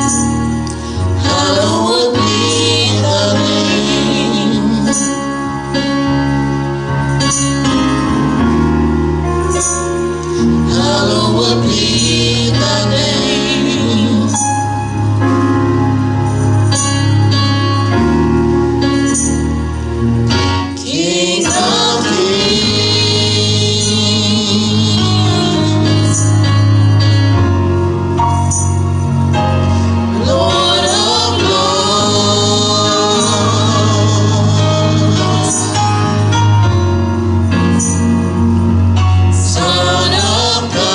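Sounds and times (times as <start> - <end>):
gospel singing: 0.0 - 27.4, 28.4 - 40.9
instrumental accompaniment: 0.0 - 40.9
sustained low bass: 0.0 - 40.9.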